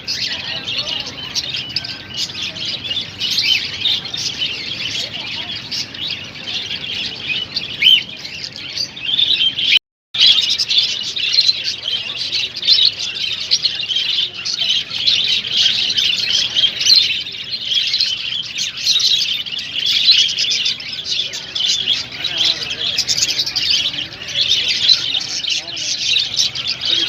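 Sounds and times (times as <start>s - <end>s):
cage birds chirping and twittering: 0.0s - 27.0s.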